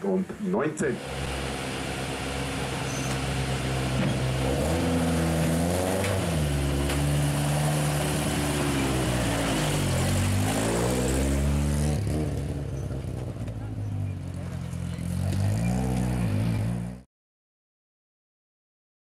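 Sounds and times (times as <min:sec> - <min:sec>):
car engine revving: 0:01.0 - 0:17.0.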